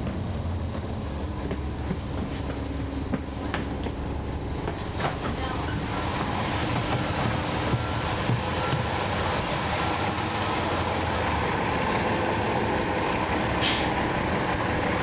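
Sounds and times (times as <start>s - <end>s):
bus engine droning: 0.0s - 15.0s
road noise: 0.0s - 15.0s.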